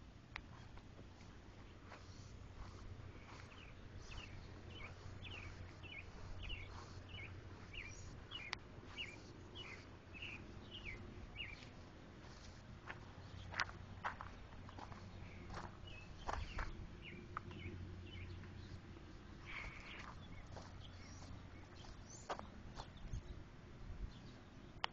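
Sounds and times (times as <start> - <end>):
low steady hum: 0.0 - 24.9
footsteps on gravel: 0.6 - 17.6, 19.5 - 23.0.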